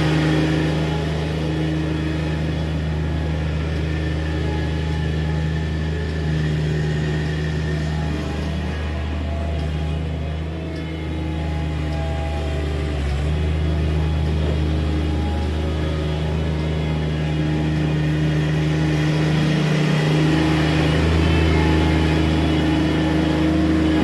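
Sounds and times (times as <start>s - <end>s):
mini skid steer engine running: 0.0s - 24.0s.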